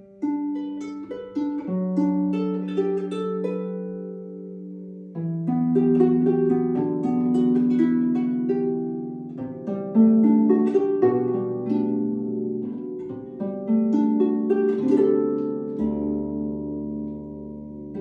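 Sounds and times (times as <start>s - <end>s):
solo harp playing: 0.0s - 18.0s.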